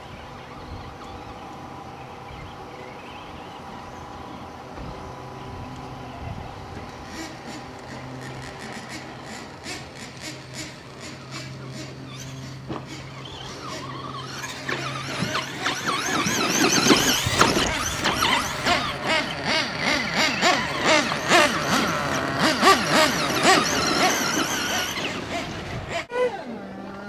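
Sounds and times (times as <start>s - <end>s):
rc car motors whining: 0.0s - 27.0s.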